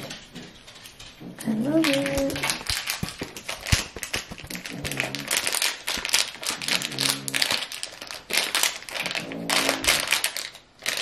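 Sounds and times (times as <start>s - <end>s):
foil sachet crinkling: 1.7s - 11.0s.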